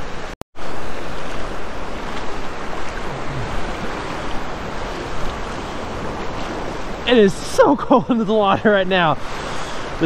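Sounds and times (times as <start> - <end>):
small waves lapping: 0.0 - 10.0.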